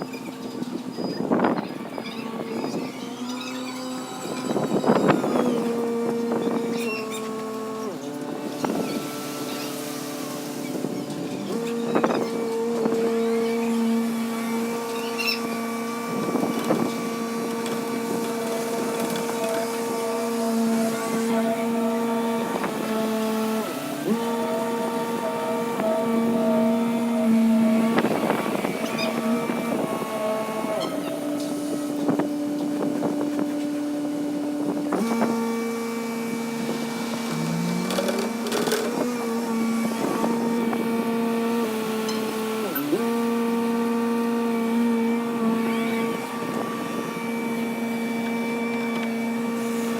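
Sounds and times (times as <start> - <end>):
excavator engine and hydraulics: 0.0 - 49.9.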